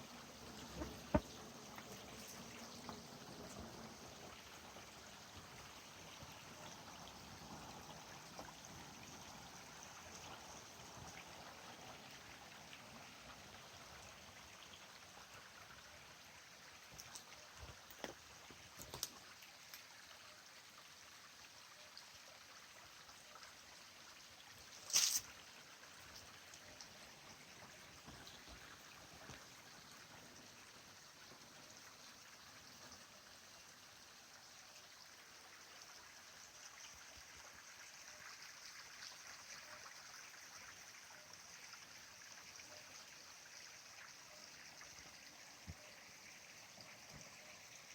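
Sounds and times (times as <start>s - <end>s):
stream trickling: 0.0s - 47.9s.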